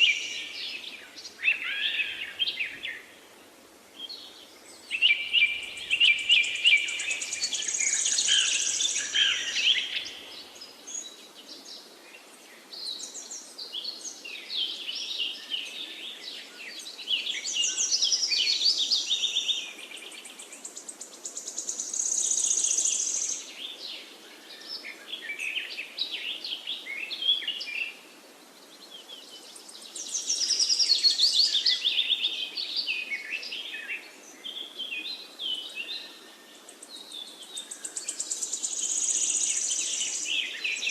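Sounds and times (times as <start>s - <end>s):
faint background hiss: 0.0s - 40.9s
songbirds chirping: 0.0s - 40.9s.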